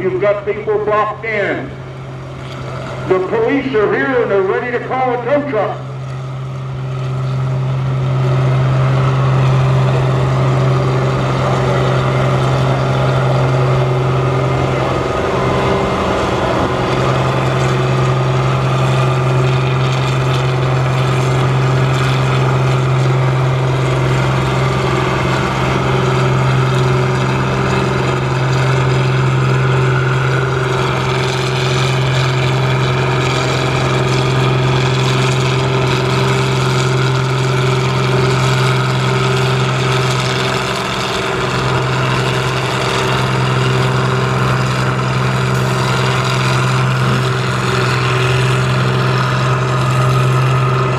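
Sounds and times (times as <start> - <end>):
diesel tractor engine running hard: 0.0 - 50.9.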